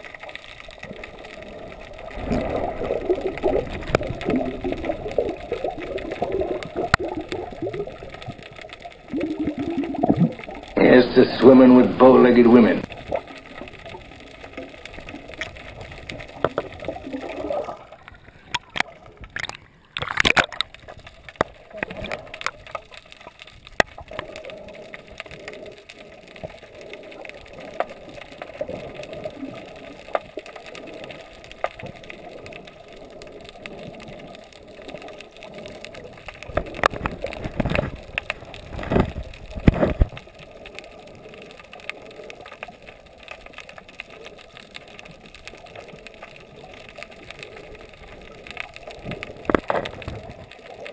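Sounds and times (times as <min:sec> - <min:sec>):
scattered clicks: 0:00.0 - 0:50.9
water sloshing underwater: 0:00.0 - 0:50.9.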